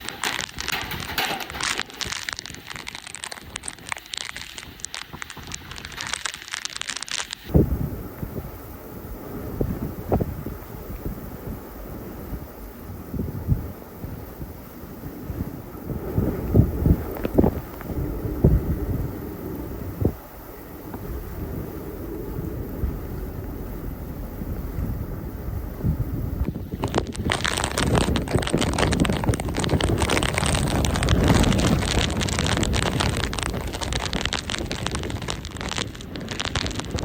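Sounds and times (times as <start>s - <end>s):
strong wind gusting on microphone: 0.0s - 37.0s.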